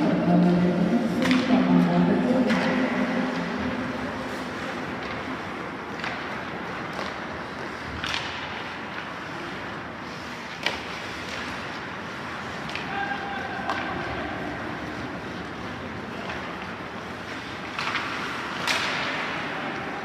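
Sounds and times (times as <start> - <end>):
hockey sticks and puck clacking: 0.0 - 20.0
ice rink noise: 0.0 - 20.0.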